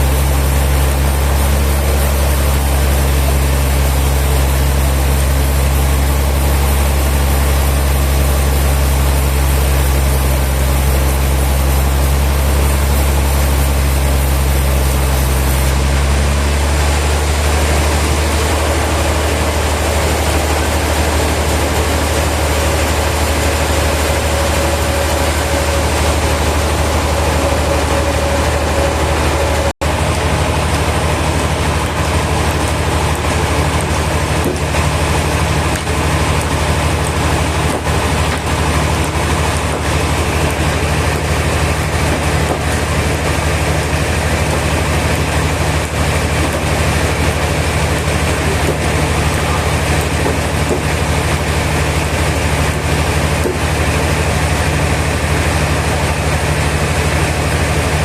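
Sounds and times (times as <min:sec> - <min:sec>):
sawmill machinery hum: 0:00.0 - 0:58.0
steady whine: 0:00.0 - 0:58.0.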